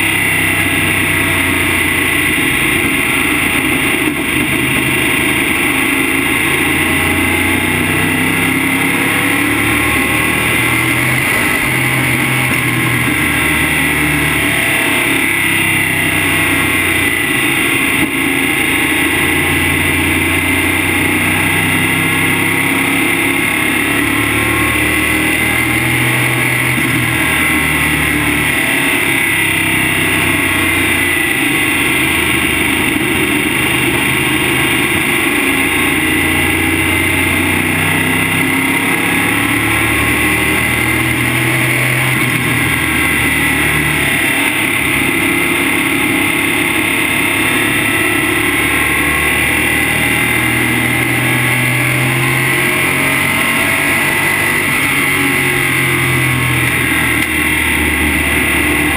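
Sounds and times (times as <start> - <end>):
race car engine at speed: 0.0 - 58.9.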